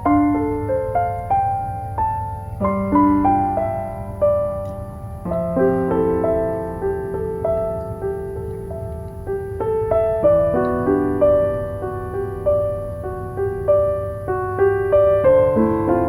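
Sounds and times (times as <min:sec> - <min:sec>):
low background rumble: 0:00.0 - 0:16.0
soft solo piano: 0:00.0 - 0:16.0.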